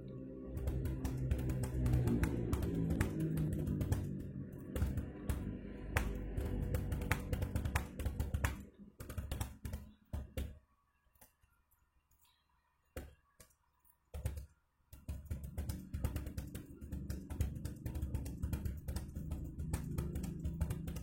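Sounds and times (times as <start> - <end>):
fast typing on computer keyboard: 0.5 - 10.5, 14.2 - 21.0.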